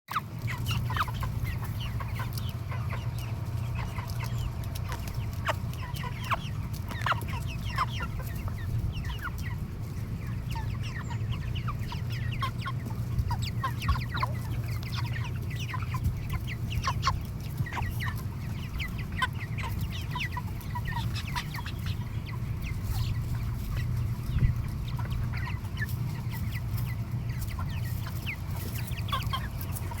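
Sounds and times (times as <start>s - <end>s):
chickens clucking and peeping: 0.1s - 30.0s.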